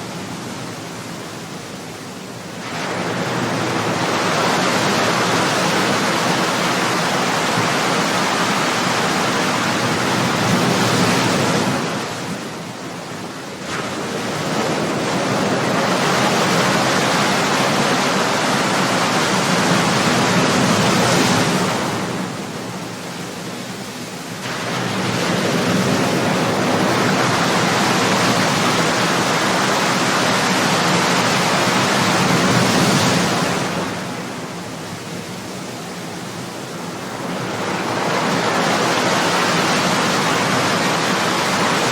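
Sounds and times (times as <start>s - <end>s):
ocean waves breaking: 0.0s - 41.9s.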